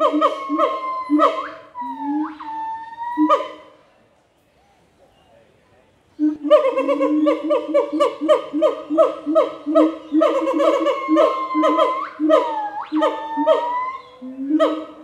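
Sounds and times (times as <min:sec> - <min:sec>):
gibbon calls with upward swoops: 0:00.0 - 0:03.6, 0:06.3 - 0:15.0
gibbons hooting: 0:00.0 - 0:03.8, 0:06.2 - 0:15.0
low steady hoot: 0:00.0 - 0:03.8, 0:06.1 - 0:15.0.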